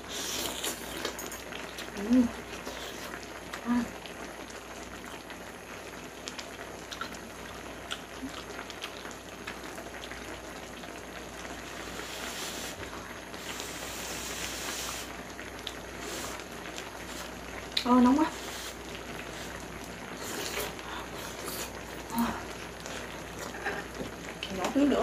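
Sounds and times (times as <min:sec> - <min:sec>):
hotpot bubbling: 0:00.0 - 0:25.0.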